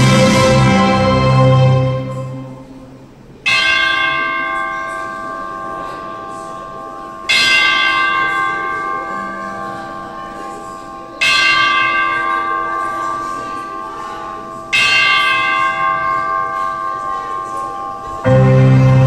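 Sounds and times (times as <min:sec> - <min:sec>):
large bell tolling: 0:00.0 - 0:19.0.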